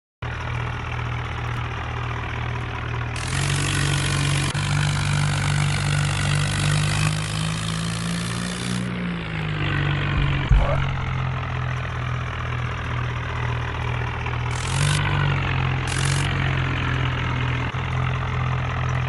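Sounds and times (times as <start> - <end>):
tractor diesel engine running: 0.2 - 19.0.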